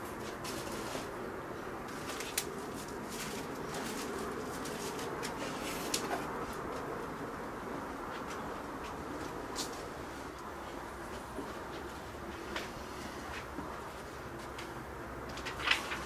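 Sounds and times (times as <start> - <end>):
outdoor background hum: 0.0 - 16.0.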